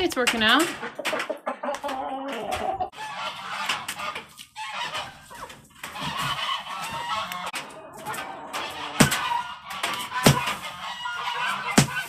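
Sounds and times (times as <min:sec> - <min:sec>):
geese honking: 0:00.7 - 0:12.0.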